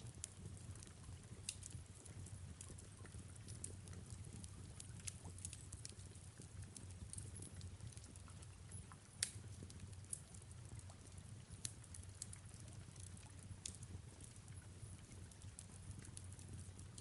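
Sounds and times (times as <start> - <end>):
fireplace crackling and popping: 0.0 - 17.0
low steady rumble: 0.0 - 17.0.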